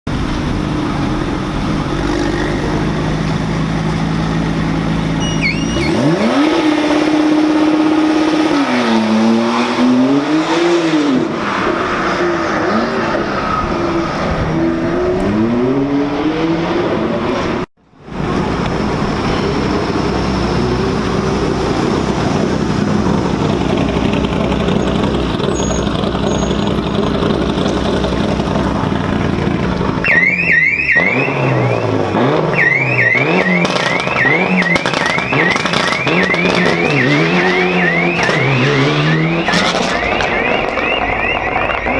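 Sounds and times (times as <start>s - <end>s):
rally car engine revving: 0.1s - 41.9s.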